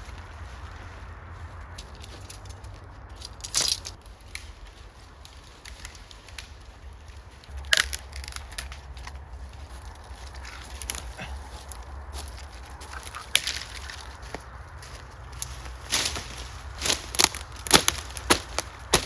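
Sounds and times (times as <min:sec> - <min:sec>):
dry twigs crunching and snapping: 0:00.0 - 0:19.0
low rumble: 0:00.0 - 0:19.0.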